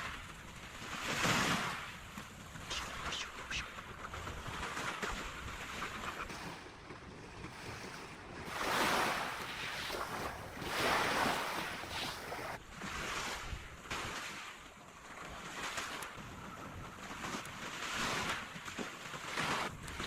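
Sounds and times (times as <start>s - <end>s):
sea waves washing in: 0.0s - 16.3s.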